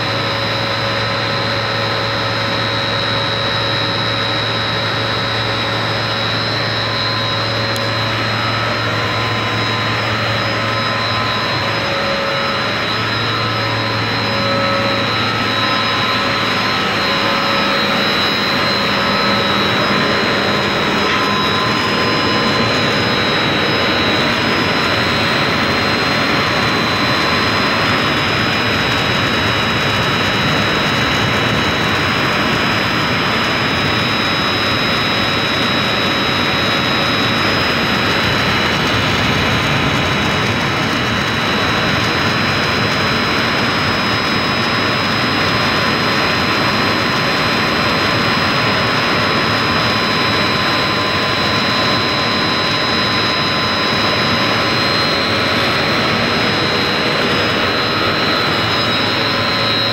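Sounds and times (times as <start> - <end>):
electric motor running with whine: 0.1 - 59.9.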